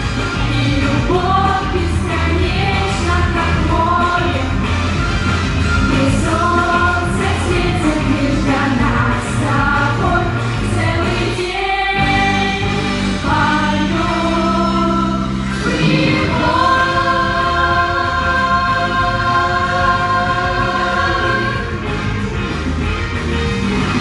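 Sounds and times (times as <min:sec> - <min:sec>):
vocal ensemble singing: 0:00.0 - 0:22.2
pop backing track: 0:00.0 - 0:24.0.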